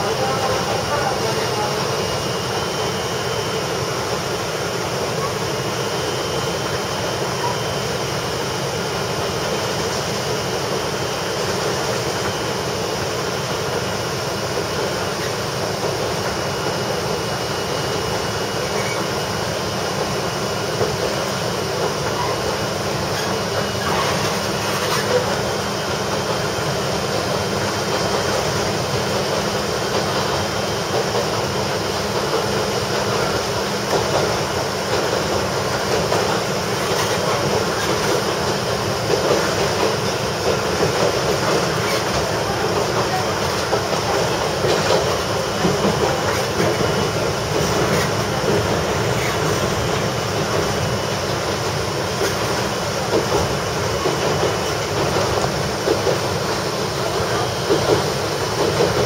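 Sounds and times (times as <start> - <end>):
railcar engine and wheels on rail: 0.0 - 59.0.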